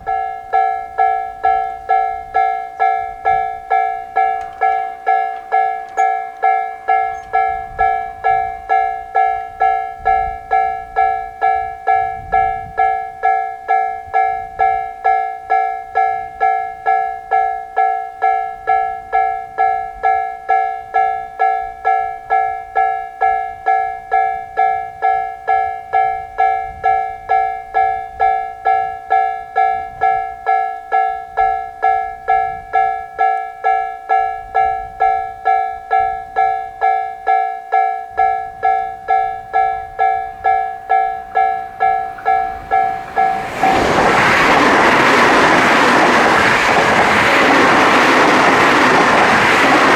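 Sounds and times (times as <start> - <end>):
level crossing alarm bells: 0.0 - 49.9.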